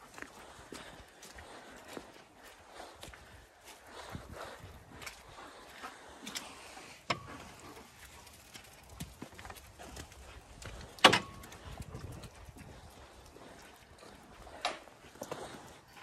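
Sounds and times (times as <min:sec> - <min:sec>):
footsteps on gravel: 0:00.0 - 0:15.9.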